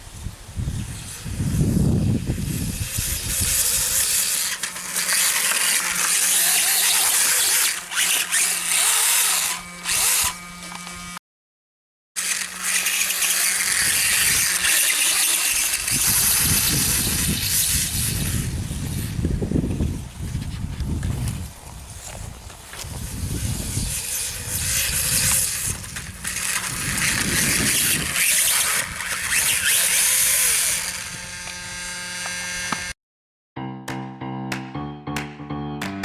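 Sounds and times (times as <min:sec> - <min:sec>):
small electric motor whirring: 0:00.5 - 0:11.2, 0:12.2 - 0:33.0.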